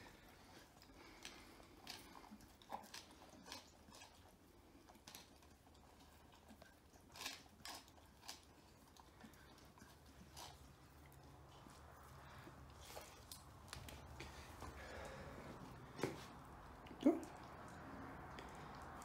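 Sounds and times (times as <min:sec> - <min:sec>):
dog chewing food: 0:00.0 - 0:19.0.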